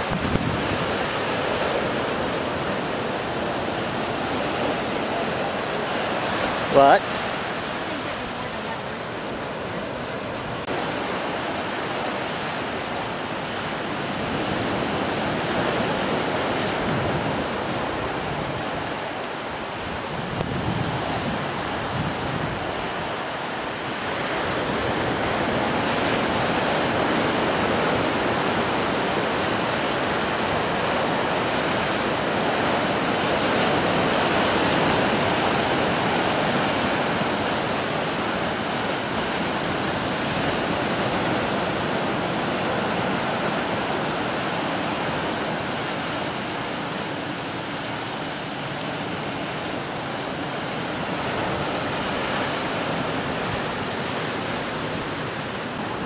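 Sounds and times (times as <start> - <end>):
surf breaking on rocky shore: 0.0 - 56.0.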